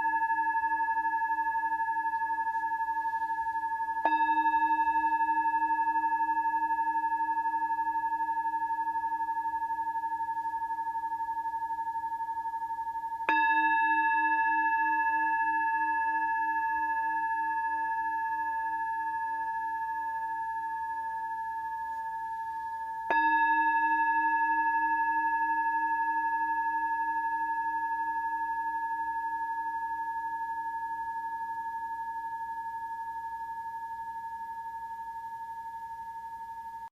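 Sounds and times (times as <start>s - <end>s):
singing bowl ringing: 0.0s - 36.9s.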